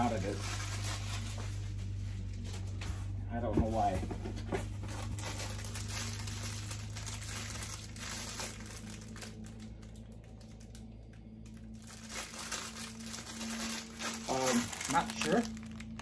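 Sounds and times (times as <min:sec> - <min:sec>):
plastic packaging crinkling: 0:00.0 - 0:02.0, 0:04.7 - 0:16.0
low hum: 0:00.0 - 0:16.0.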